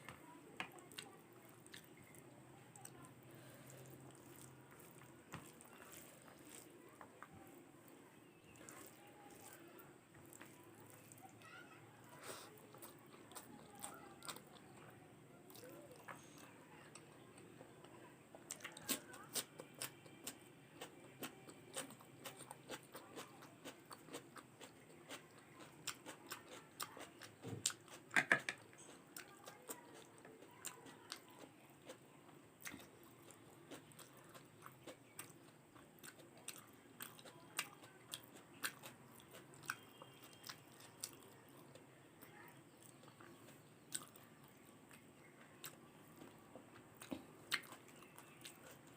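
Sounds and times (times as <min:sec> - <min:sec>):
person chewing: 0:00.6 - 0:07.3, 0:07.9 - 0:11.5, 0:12.2 - 0:14.9, 0:18.5 - 0:32.0, 0:32.6 - 0:41.8, 0:42.8 - 0:48.9.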